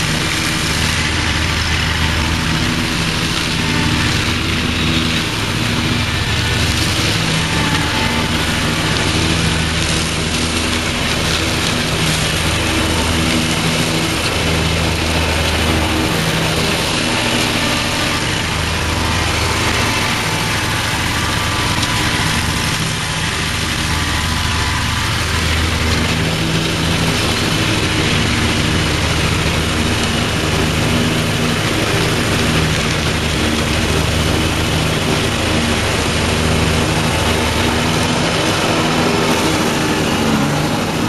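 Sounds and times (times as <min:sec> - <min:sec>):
lawn mower cutting grass: 0:00.0 - 0:41.0.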